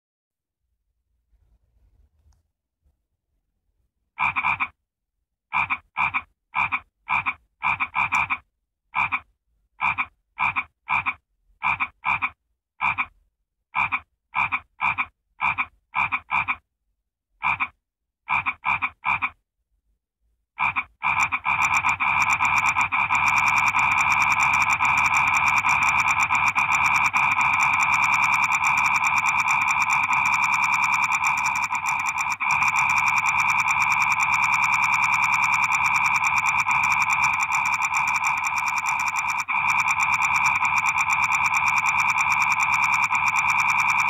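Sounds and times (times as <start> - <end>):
frog croaking and trilling: 4.2 - 4.8, 5.5 - 8.4, 9.0 - 13.2, 13.8 - 16.6, 17.4 - 19.4, 20.6 - 44.0.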